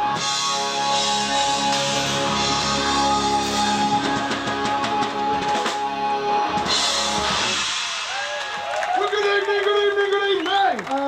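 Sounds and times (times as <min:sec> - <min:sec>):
electric guitars: 0:00.0 - 0:09.0
drum kit with cymbals: 0:00.0 - 0:09.3.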